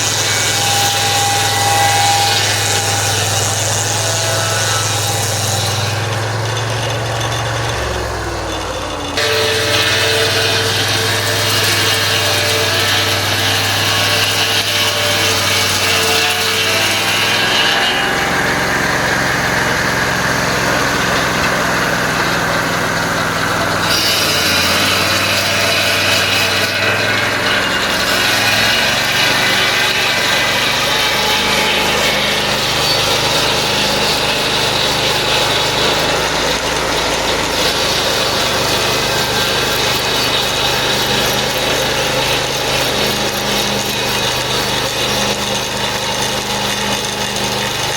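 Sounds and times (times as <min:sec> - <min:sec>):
band sawmill cutting wood: 0:00.0 - 0:47.9.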